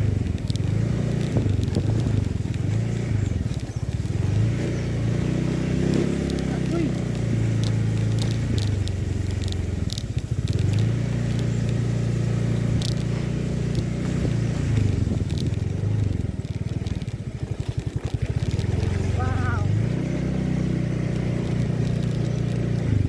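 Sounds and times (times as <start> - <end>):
clicks and knocks over rough ground: 0.0 - 20.0, 20.7 - 23.0
motorcycle engine running: 0.0 - 23.0.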